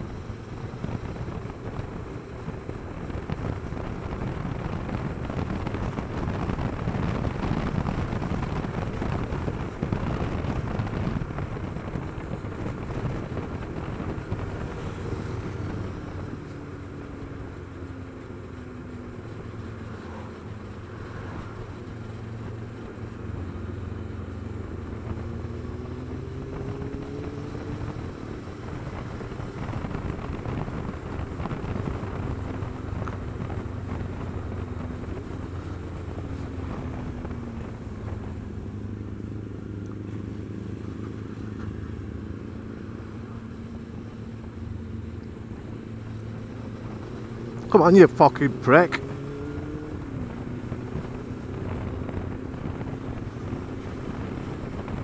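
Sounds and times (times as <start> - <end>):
wind rush on microphone: 0.0 - 55.0.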